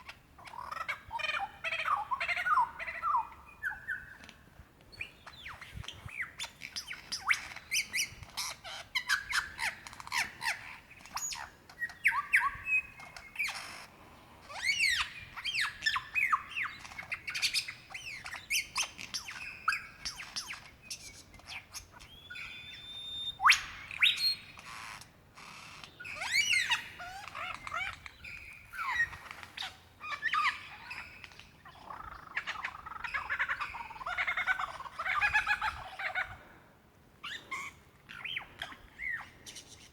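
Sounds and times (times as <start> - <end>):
lyrebird singing: 0.0 - 4.3, 4.9 - 36.4, 37.2 - 39.9.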